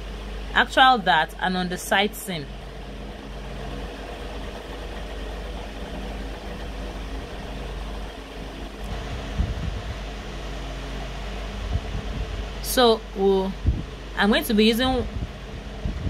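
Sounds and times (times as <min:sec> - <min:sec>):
cooling fan hum: 0:00.0 - 0:16.0.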